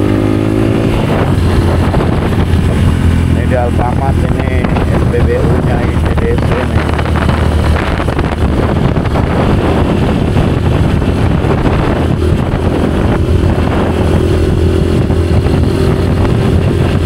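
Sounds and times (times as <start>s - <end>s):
motor vehicle running: 0.0s - 17.0s
wind buffeting microphone: 0.0s - 17.0s.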